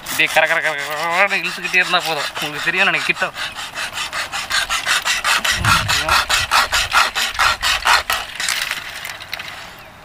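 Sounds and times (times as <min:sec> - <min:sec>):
pocket saw rasping through wood: 0:00.0 - 0:09.1.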